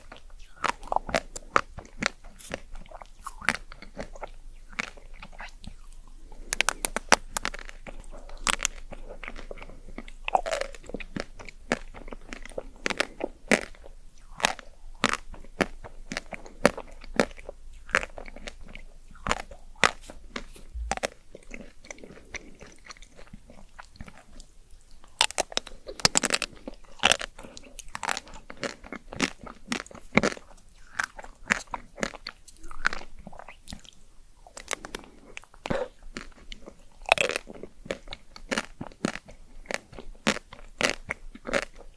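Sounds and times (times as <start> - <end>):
person chewing crisp food: 0.0 - 41.9.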